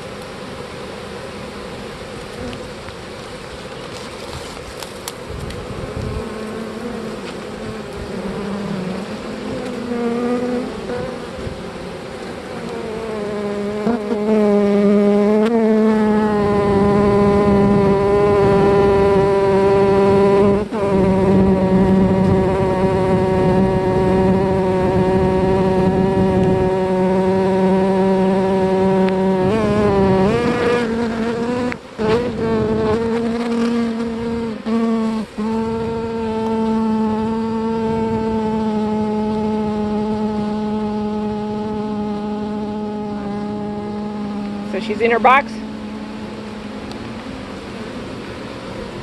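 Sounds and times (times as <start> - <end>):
bee buzzing close by: 0.0 - 49.0
bee swarm buzzing: 0.0 - 49.0.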